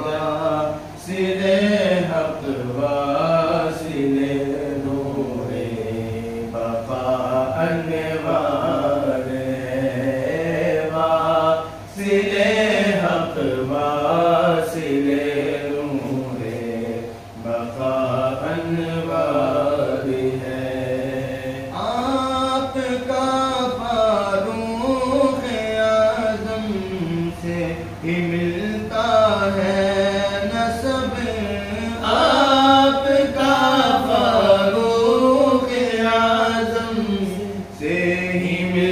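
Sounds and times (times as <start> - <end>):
man chanting devotional poem: 0.0 - 38.9.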